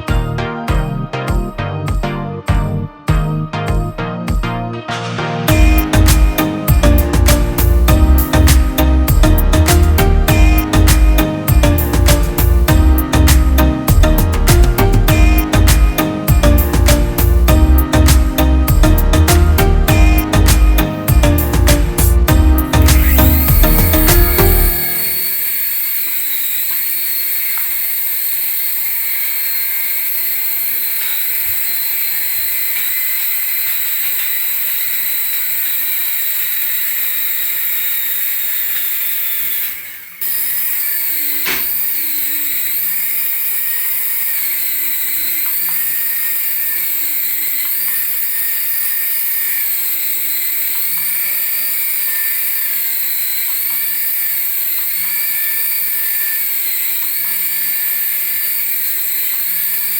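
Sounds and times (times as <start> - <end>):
toy electric motor whining: 5.5 - 59.9.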